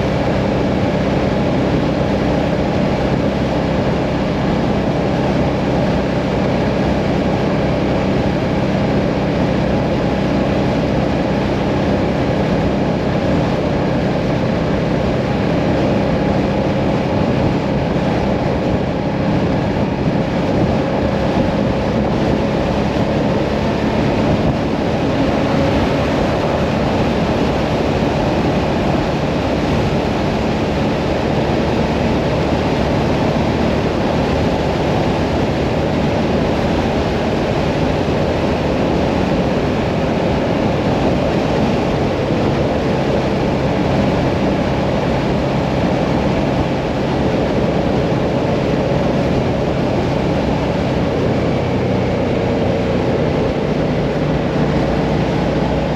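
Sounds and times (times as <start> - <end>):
motorcycle engine drone: 0.0 - 55.9
rushing wind noise: 0.0 - 55.9.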